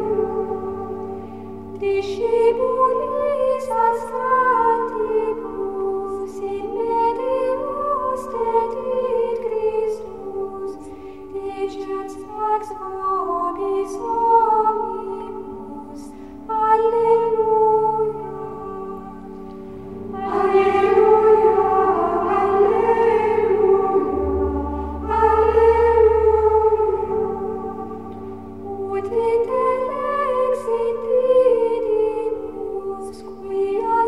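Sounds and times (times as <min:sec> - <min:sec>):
slow music with sung notes: 0:00.0 - 0:34.0.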